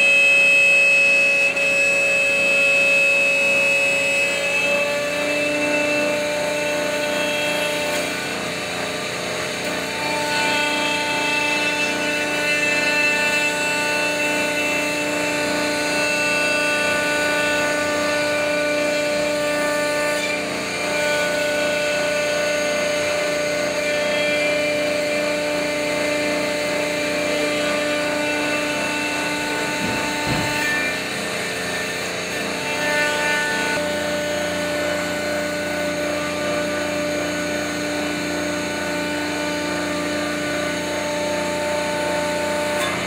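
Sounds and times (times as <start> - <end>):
router spindle high whine: 0.0 - 43.0.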